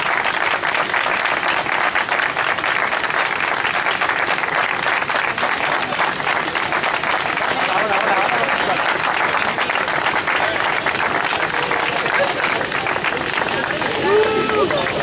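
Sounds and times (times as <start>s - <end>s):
crowd clapping: 0.0s - 15.0s.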